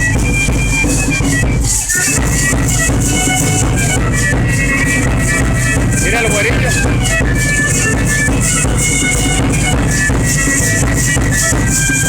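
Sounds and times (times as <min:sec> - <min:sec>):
high held melody: 0:00.0 - 0:12.0.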